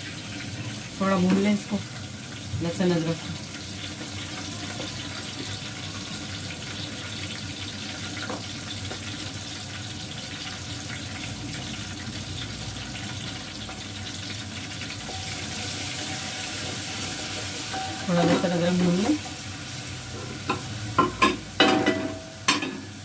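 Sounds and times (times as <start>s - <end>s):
garlic sizzling in hot oil: 0.0s - 23.0s.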